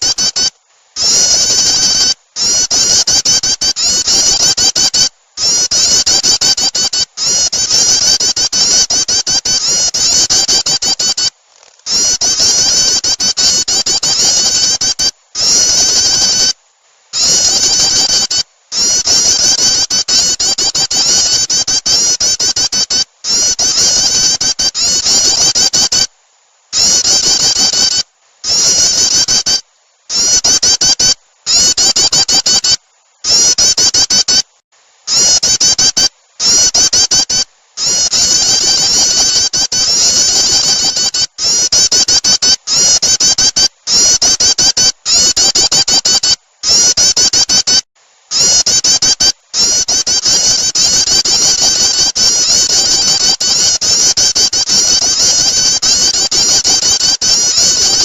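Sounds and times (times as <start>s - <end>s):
bird chattering call: 0.0s - 11.3s, 11.9s - 16.5s, 17.2s - 26.1s, 35.1s - 47.6s, 48.4s - 58.0s.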